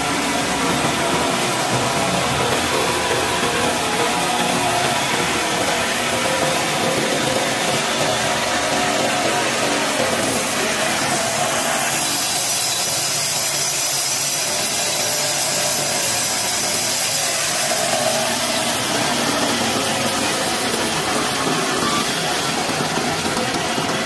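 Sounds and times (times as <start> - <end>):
mower engine running: 0.0 - 24.0.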